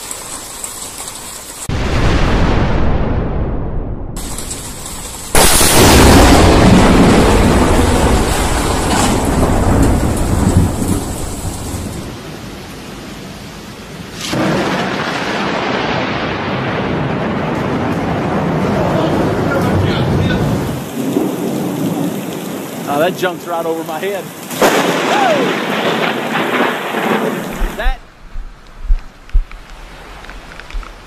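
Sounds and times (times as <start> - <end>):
rain hissing: 0.0 - 3.4, 4.2 - 31.0
thunderclap rumbling: 1.6 - 12.3, 14.2 - 31.0.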